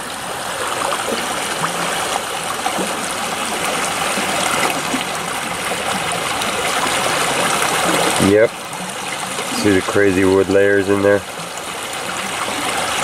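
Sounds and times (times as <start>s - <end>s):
creek water flowing over pebbles: 0.0s - 13.0s.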